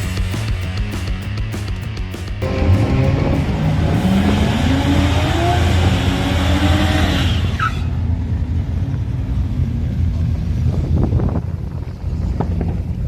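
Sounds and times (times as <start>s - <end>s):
car engine accelerating: 2.4s - 13.0s
low steady engine rumble: 2.4s - 13.0s.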